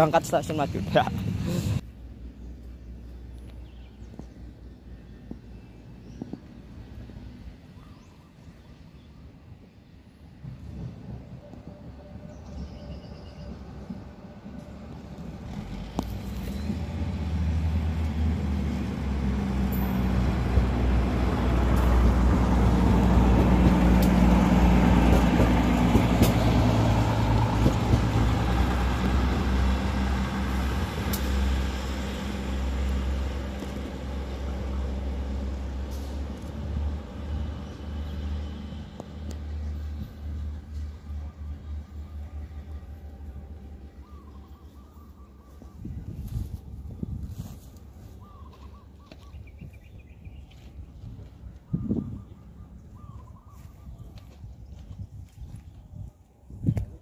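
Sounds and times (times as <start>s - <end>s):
train engine drone: 0.0s - 57.0s.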